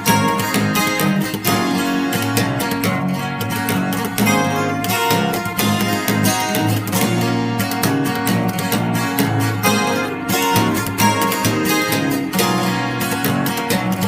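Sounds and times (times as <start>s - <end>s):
steady beat and bass: 0.0s - 14.0s
strummed acoustic guitar song: 0.0s - 14.0s.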